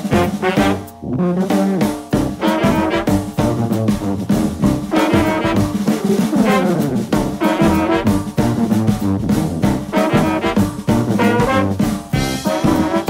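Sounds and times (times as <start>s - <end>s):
brass instruments: 0.0s - 13.0s
drums: 0.0s - 13.0s.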